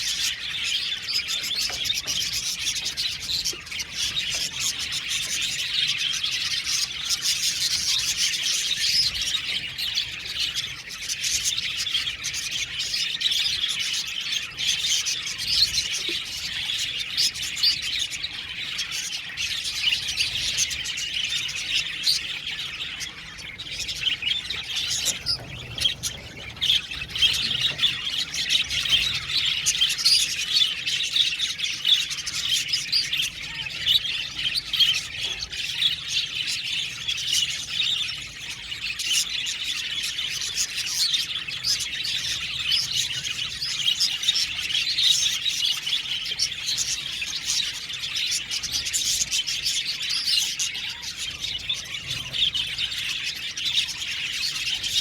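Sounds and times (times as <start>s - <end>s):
budgerigars chirping and warbling: 0.0s - 55.0s.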